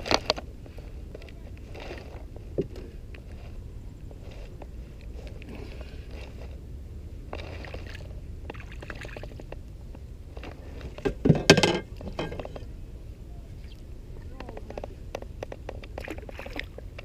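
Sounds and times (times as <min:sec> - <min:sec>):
faint water sounds: 0:00.0 - 0:17.0.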